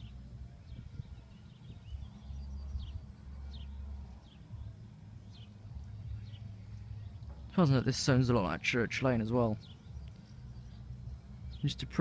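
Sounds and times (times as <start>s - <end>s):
small bird chirping: 0.0s - 7.6s, 9.1s - 12.0s
low steady rumble: 0.0s - 12.0s.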